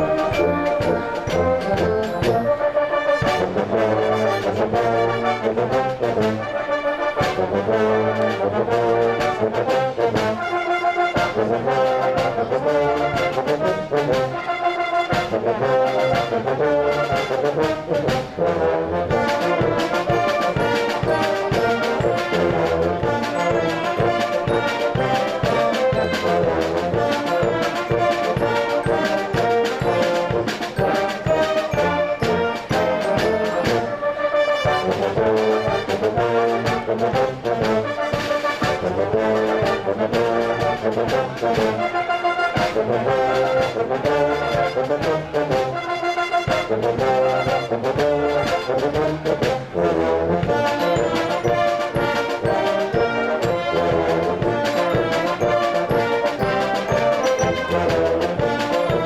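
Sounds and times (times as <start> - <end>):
brass band playing a march: 0.0 - 59.0.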